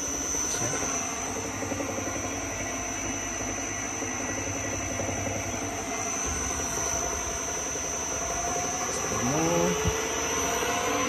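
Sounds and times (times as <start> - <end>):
mixer motor humming and whining: 0.0 - 11.0.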